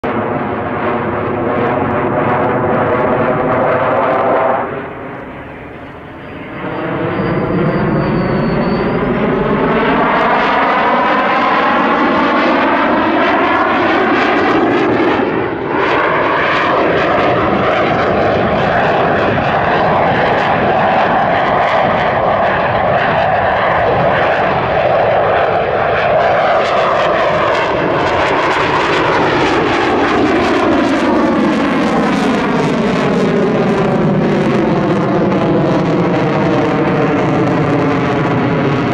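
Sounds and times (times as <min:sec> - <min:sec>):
fighter jet engine roaring overhead: 0:00.0 - 0:38.9.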